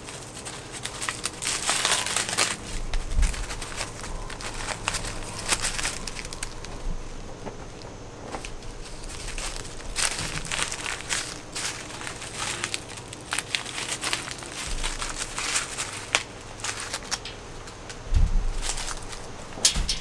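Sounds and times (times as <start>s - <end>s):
dry corn husks tearing: 0.0s - 20.0s.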